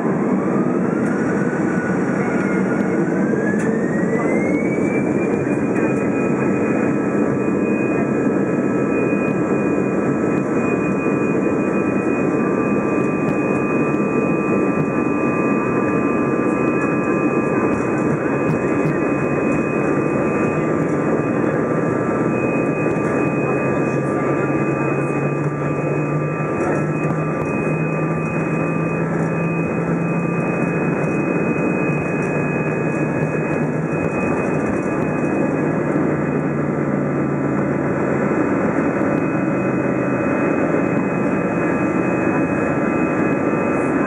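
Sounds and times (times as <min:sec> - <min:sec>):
jet engine rumble: 0:00.0 - 0:44.0
jet engine whine: 0:00.0 - 0:44.0.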